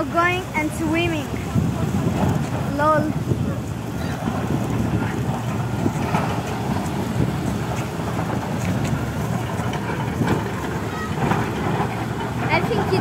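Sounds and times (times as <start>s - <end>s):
excavator diesel engine rumbling: 0.0s - 13.0s
small waves washing in: 0.0s - 13.0s
wind on microphone: 0.0s - 13.0s.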